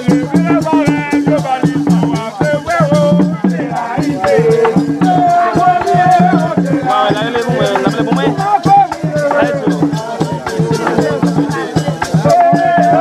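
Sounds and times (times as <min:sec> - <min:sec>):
voices singing a chant: 0:00.0 - 0:13.0.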